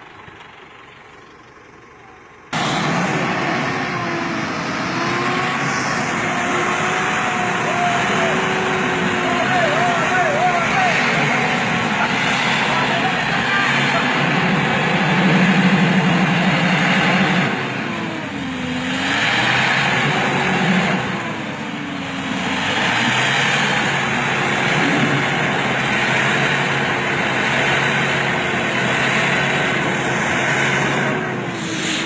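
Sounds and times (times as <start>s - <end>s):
truck engine revving: 0.0s - 32.0s
rushing noise: 2.6s - 32.0s.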